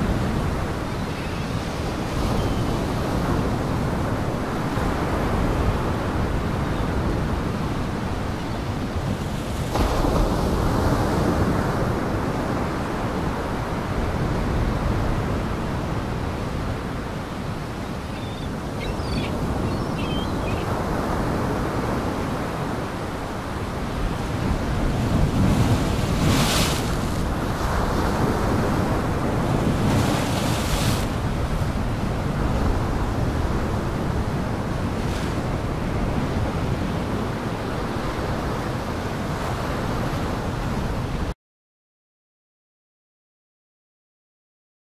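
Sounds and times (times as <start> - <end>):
wind rushing over microphone: 0.0 - 41.3.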